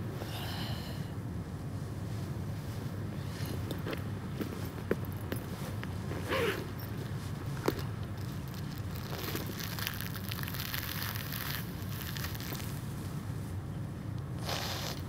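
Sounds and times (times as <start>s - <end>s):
distant traffic rumble: 0.0s - 15.0s
soft crackly hiss: 1.7s - 15.0s.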